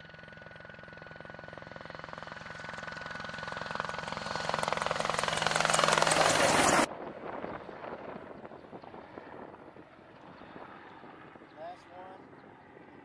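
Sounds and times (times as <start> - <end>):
helicopter rotor beat: 0.0 - 13.0
turbine whine: 1.6 - 13.0.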